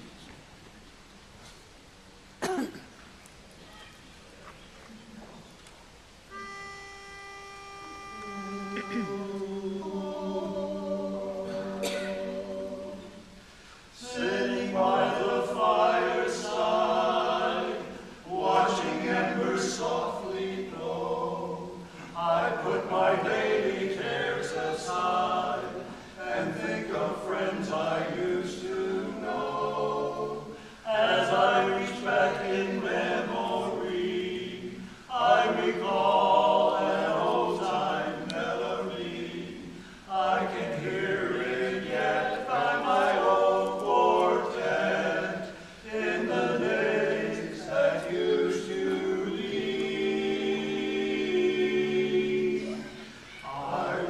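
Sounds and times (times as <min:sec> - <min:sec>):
men's chorus singing a cappella: 0:08.3 - 0:54.0.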